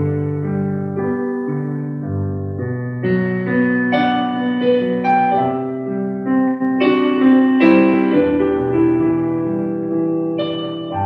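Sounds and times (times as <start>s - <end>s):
digital piano chords: 0.0s - 11.0s.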